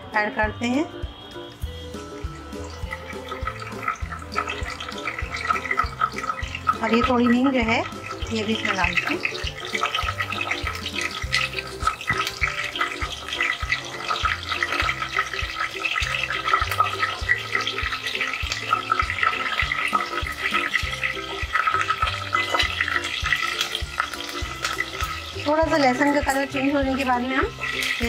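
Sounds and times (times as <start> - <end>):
background music with bass: 0.0 - 28.0
spices sizzling in hot oil: 0.0 - 28.0.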